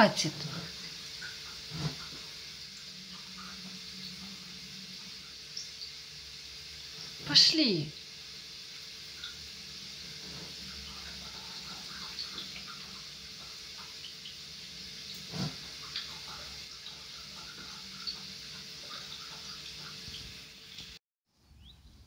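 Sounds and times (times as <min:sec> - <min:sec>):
water running: 0:00.0 - 0:21.0.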